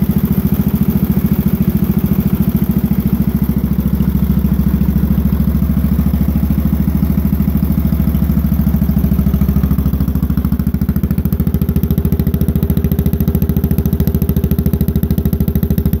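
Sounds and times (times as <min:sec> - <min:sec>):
small engine exhaust pulses: 0:00.0 - 0:16.0.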